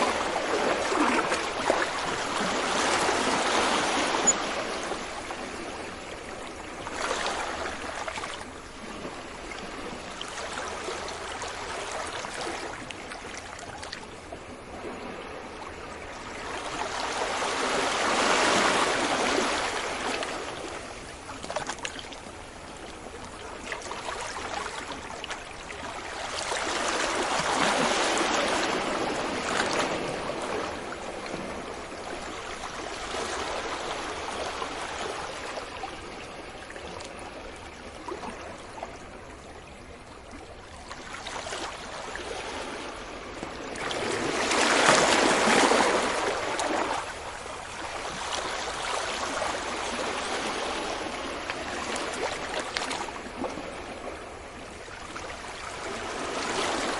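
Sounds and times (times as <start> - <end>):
large waves breaking: 0.0 - 39.2, 39.9 - 56.9
surf washing on beach: 0.0 - 40.2, 40.8 - 56.9.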